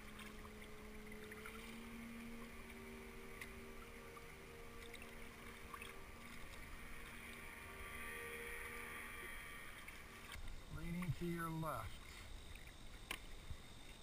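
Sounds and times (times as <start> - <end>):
paddle blades splashing water: 0.0 - 14.0.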